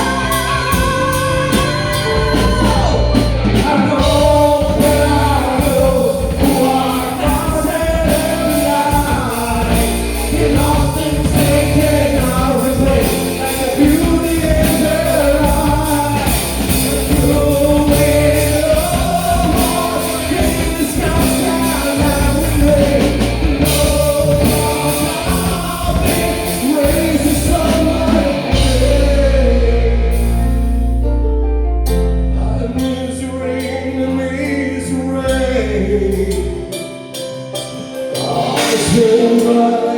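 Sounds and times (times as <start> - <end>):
held bass note: 0.0 - 33.6
drums: 0.0 - 39.9
rock song with singing: 0.0 - 39.9.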